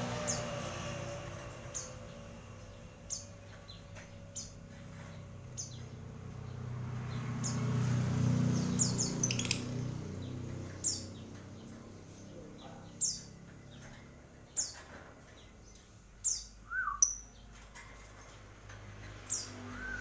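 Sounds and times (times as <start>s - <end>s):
cage bird chirping: 0.0s - 20.0s.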